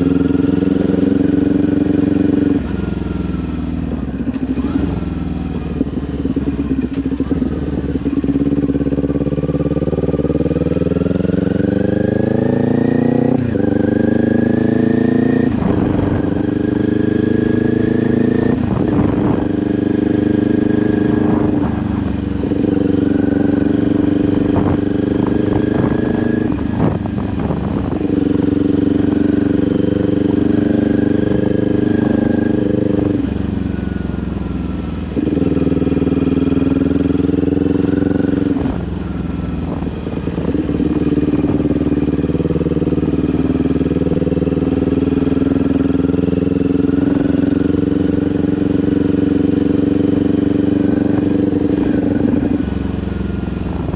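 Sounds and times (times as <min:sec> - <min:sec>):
motorcycle engine riding: 0:00.0 - 0:53.9.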